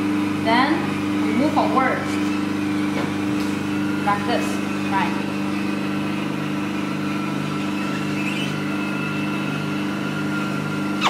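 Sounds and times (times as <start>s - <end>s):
vacuum suction machine humming: 0.0s - 11.0s.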